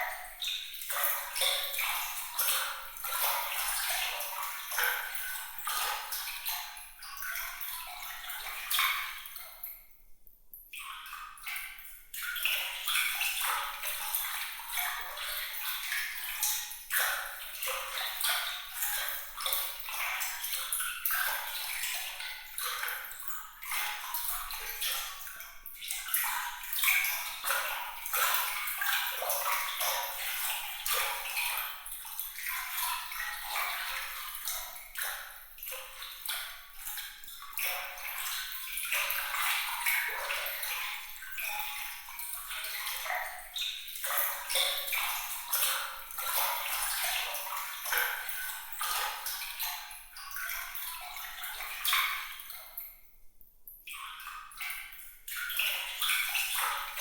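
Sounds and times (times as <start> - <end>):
water trickling and splashing: 0.0 - 10.0, 10.7 - 53.1, 53.9 - 57.0.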